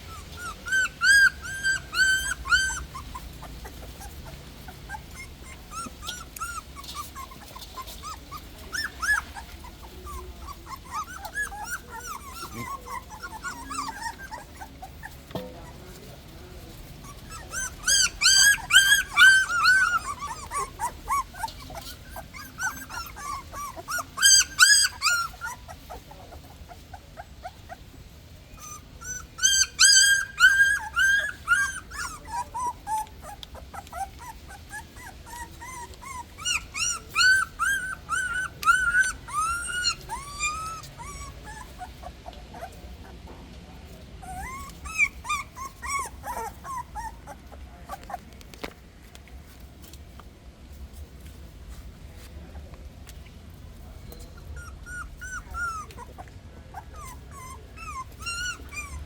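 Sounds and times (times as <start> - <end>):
puppies squealing and whimpering: 0.0 - 16.0, 16.8 - 43.2, 44.2 - 48.4, 54.3 - 59.0.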